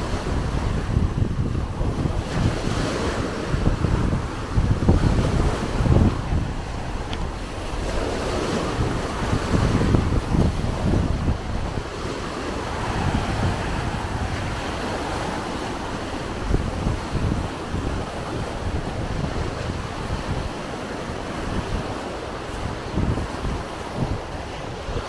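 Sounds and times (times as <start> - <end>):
small waves washing on shore: 0.0 - 25.0
wind buffeting microphone: 0.0 - 25.0.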